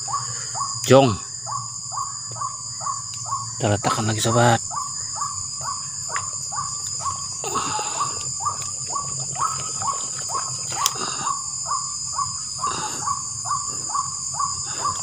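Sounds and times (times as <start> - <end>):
crickets droning: 0.0 - 15.0.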